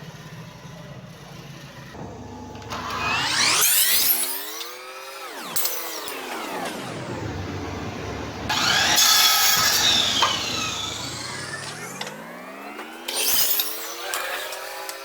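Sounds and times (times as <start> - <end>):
mitre saw motor whine: 0.1 - 15.0
saw blade cutting: 2.0 - 15.0.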